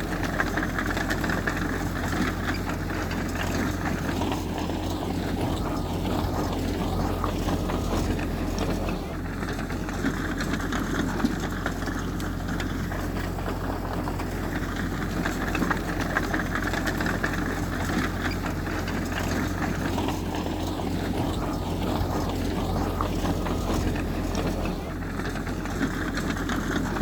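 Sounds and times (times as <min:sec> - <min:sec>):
heavy machinery engine drone: 0:00.0 - 0:27.0.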